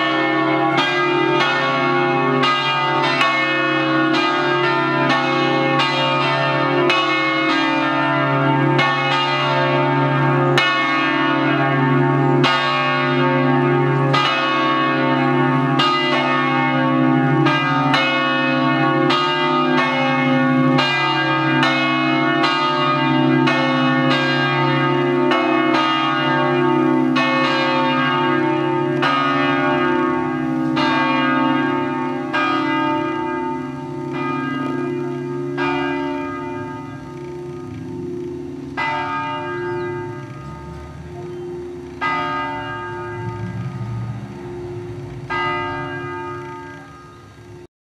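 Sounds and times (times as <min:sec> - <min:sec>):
church bells ringing: 0:00.0 - 0:47.7.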